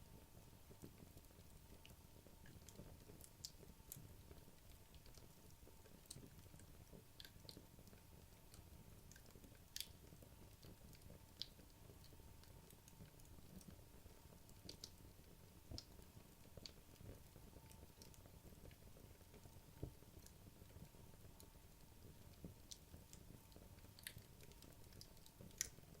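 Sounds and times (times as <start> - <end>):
fire crackling and popping: 0.8 - 21.3, 22.0 - 26.0.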